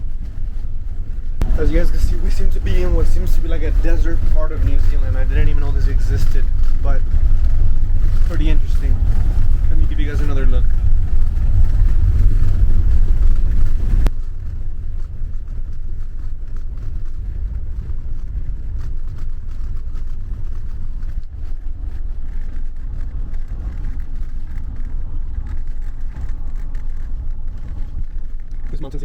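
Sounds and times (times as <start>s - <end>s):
moving vehicle rumble: 0.0s - 29.0s
wind noise: 0.0s - 29.0s.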